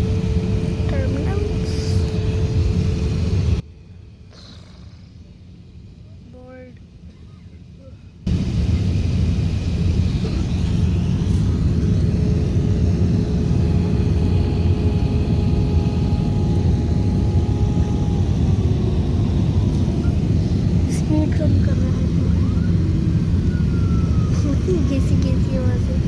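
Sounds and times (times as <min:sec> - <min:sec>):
aircraft engine rumble in cabin: 0:00.0 - 0:26.0
faint steady hum: 0:00.0 - 0:26.0.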